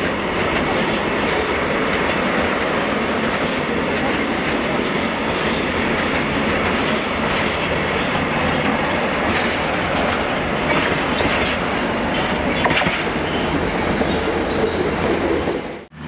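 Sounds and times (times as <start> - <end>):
wheels clattering on rails: 0.0 - 15.6
freight train rumbling: 0.0 - 16.0.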